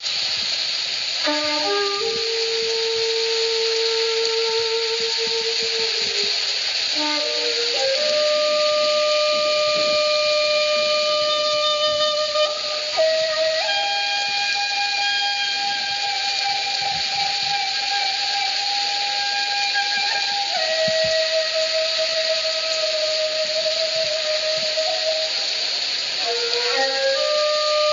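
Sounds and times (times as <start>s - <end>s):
steady hiss: 0.0s - 27.9s
breathy solo flute music: 1.2s - 27.9s.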